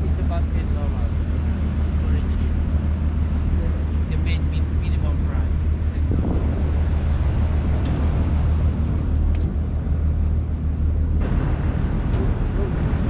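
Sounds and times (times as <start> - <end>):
boat engine humming: 0.0 - 13.0
water noise: 0.0 - 13.0.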